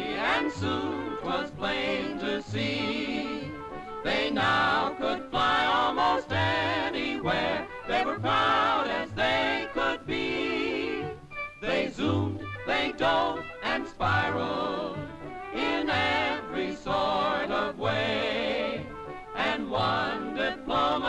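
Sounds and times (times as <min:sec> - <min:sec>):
cartoon background music: 0:00.0 - 0:21.0.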